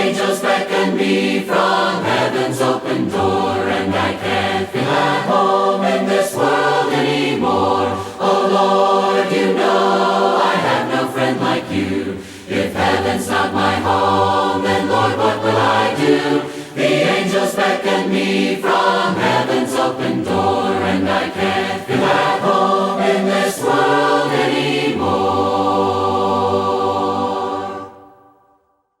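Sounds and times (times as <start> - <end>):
choir singing a hymn: 0.0 - 28.5.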